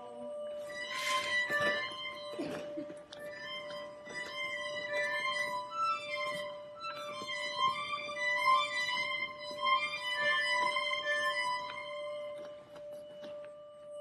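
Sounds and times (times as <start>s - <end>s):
violin melody over held note: 0.0s - 12.6s.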